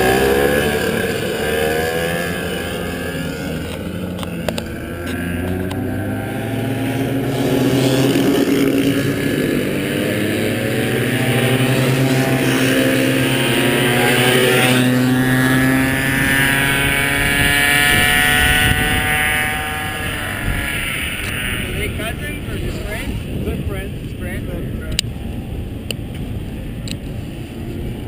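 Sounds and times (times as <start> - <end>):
kart engines buzzing: 0.0 - 28.0.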